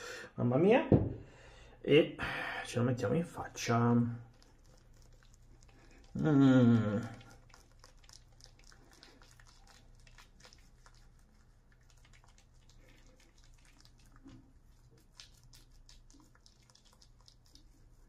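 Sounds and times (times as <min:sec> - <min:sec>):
shaving lather squishing: 0:03.3 - 0:18.0.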